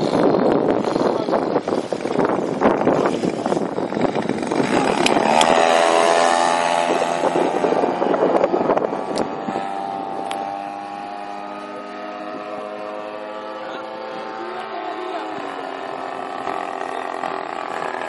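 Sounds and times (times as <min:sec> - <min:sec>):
model plane motor buzzing: 0:00.0 - 0:18.0
wind buffeting microphone: 0:00.0 - 0:18.0.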